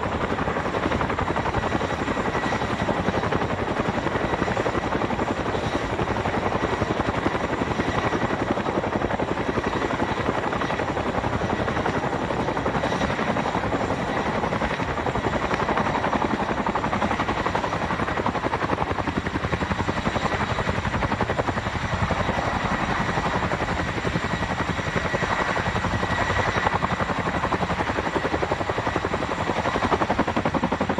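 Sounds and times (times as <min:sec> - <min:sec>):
helicopter rotor beat: 0:00.0 - 0:30.9.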